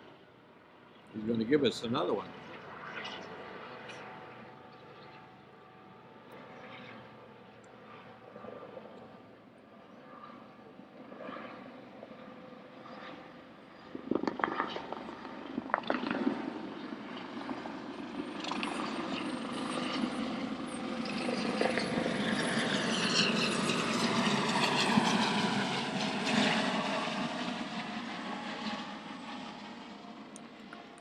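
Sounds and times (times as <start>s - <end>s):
helicopter flyover: 0.0s - 31.0s.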